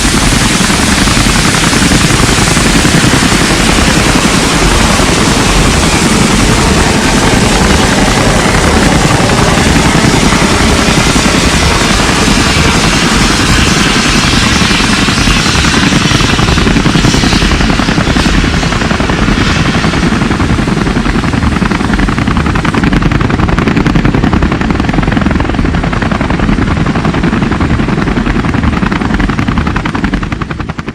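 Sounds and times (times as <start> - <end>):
helicopter rotor chopping: 0.0 - 30.9.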